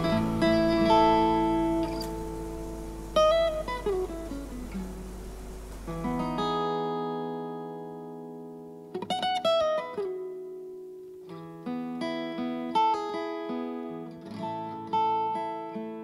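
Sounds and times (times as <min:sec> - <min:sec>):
guitar chords ringing: 0:00.0 - 0:16.0.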